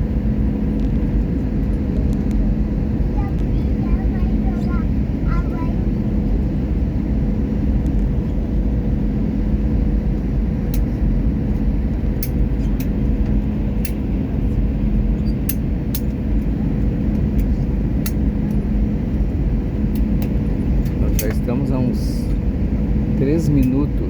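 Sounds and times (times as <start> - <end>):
airliner engines and airflow rumble: 0.0 - 24.0
constant hum: 0.0 - 24.0.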